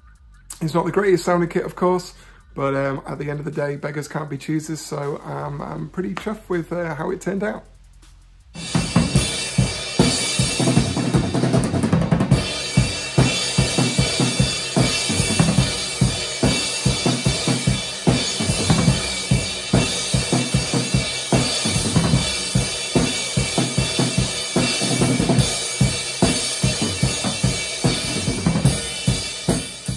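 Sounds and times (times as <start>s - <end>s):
drum kit played with sticks: 0.0s - 29.9s.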